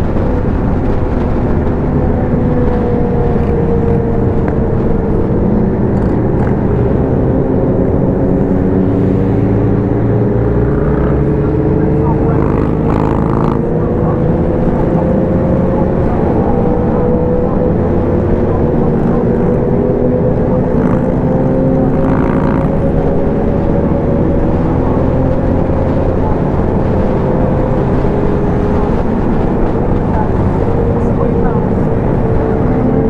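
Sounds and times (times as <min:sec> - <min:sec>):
motorcycle engine cruising: 0:00.0 - 0:33.0
wind rush on microphone: 0:00.0 - 0:33.0.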